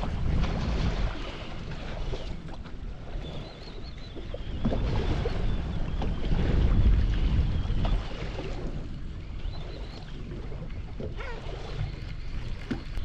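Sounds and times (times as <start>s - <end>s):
boat motor rumble: 0.0s - 13.0s
wind buffeting microphone: 0.0s - 13.0s.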